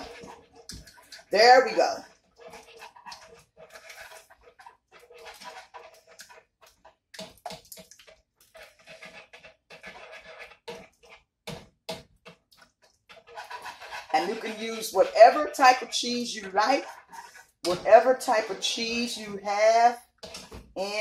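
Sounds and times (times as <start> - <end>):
wire whisk scraping a saucepan: 0.0 - 21.0.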